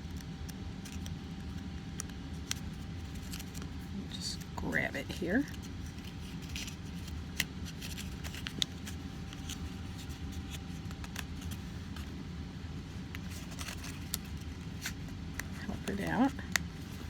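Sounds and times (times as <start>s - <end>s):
paper crackling and rustling: 0.0s - 17.0s
steady low hum: 0.0s - 17.0s.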